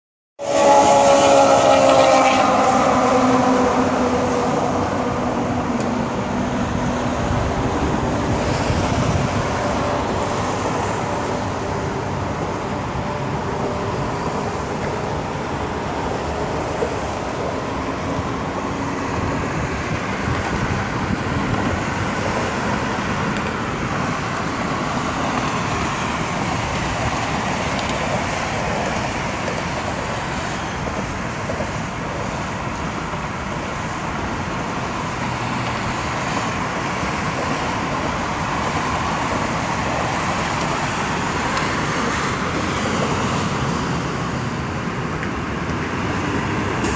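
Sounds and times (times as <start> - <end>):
road traffic: 0.4 - 46.9.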